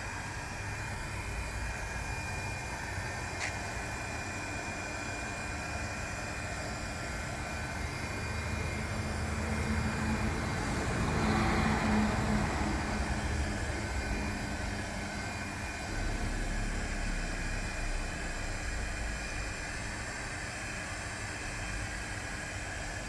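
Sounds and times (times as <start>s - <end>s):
heat gun fan whining: 0.0s - 23.0s.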